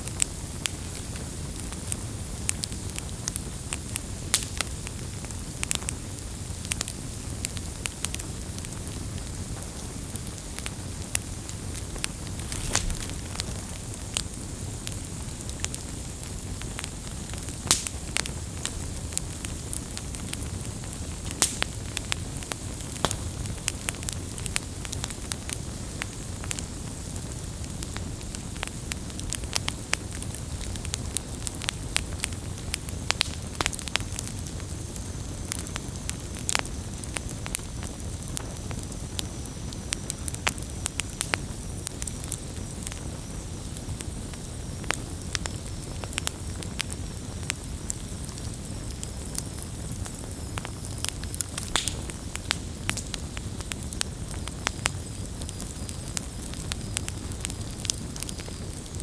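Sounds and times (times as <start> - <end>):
burning wood popping and crackling: 0.0 - 59.0
low rumble of flames: 0.0 - 59.0.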